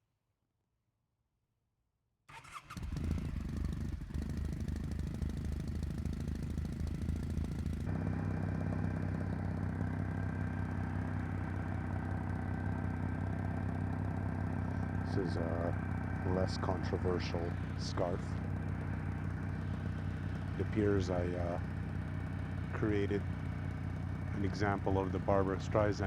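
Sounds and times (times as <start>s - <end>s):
motorcycle engine starting and idling: 2.3s - 26.0s.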